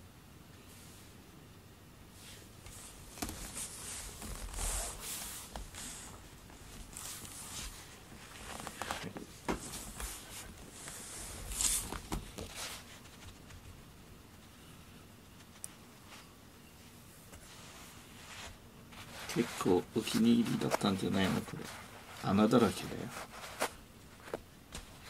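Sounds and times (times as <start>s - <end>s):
rustling and scuffing: 2.2s - 13.8s, 15.4s - 25.0s.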